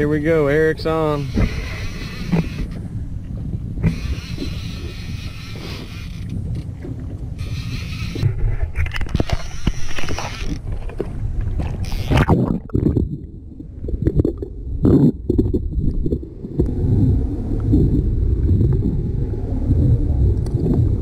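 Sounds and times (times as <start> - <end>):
sea noise: 0.0 - 21.0
underwater rumble and gurgle: 0.0 - 21.0
wind: 0.0 - 21.0.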